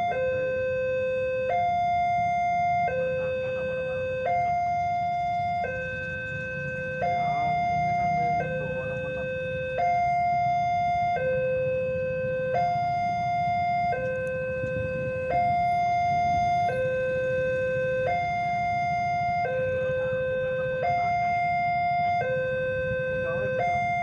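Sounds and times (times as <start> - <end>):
two-tone electronic alarm: 0.0 - 24.0
steady low rumble: 0.3 - 24.0.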